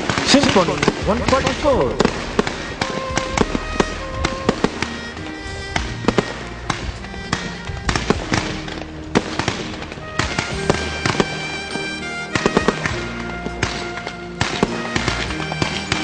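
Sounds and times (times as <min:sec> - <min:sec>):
background music: 0:00.0 - 0:16.0
fireworks bangs and crackles: 0:00.0 - 0:16.0.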